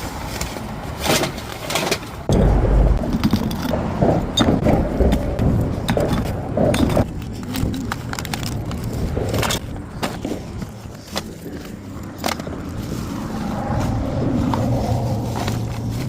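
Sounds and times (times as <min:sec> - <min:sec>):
trash being handled clatter: 0:00.1 - 0:16.0
low steady rumble: 0:02.3 - 0:16.0.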